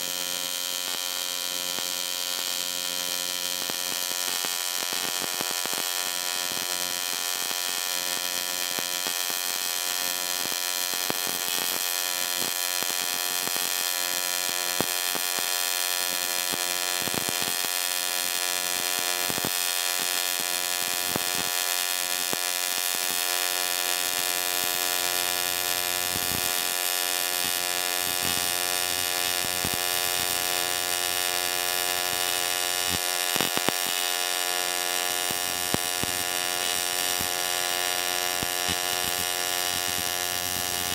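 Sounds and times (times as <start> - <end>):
welding arc buzzing: 0.0 - 40.9.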